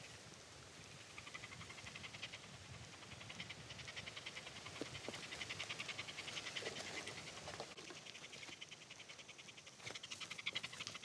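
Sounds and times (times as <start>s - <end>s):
insect trilling: 1.0s - 11.0s.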